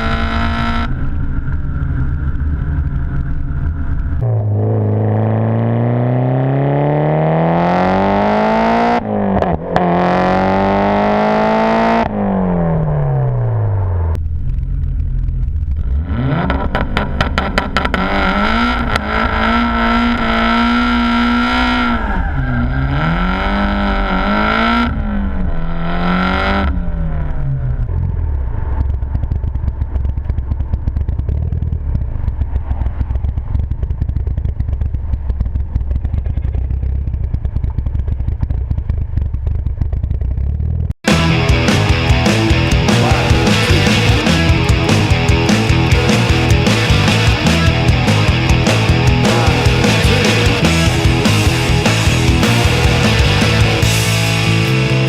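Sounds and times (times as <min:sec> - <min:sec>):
car engine accelerating hard: 0:00.0 - 0:14.2, 0:15.1 - 0:34.6, 0:40.8 - 0:55.0.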